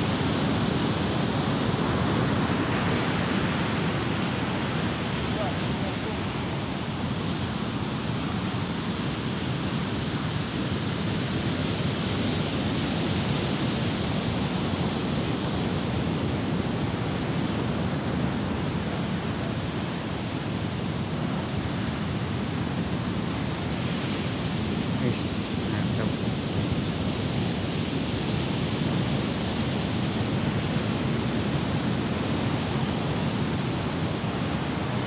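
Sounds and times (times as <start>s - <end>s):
ocean surf rushing: 0.0s - 35.0s.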